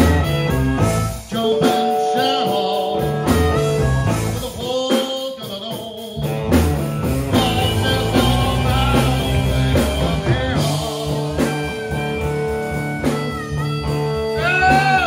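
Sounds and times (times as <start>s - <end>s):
electric bass: 0.0s - 2.2s, 2.8s - 4.8s, 6.2s - 15.0s
electric guitar: 0.0s - 15.0s
harmonica: 0.0s - 15.0s.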